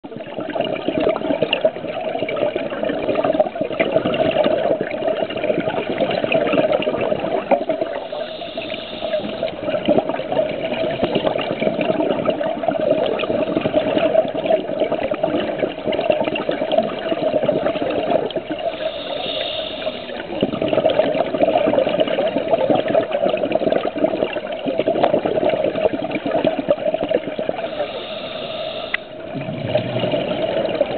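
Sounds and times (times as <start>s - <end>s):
hissing regulator bubbles: 0.0s - 30.9s
underwater rushing water: 0.0s - 30.9s.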